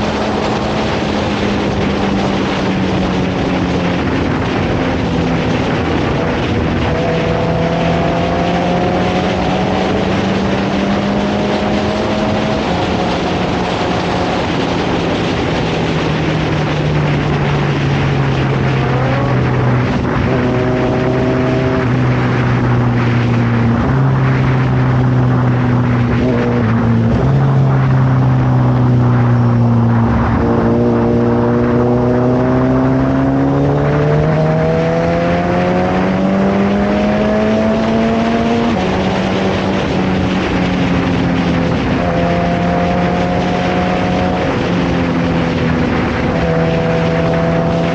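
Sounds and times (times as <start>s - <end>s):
motorcycle engine while riding: 0.0s - 47.9s
wind rush: 0.0s - 47.9s.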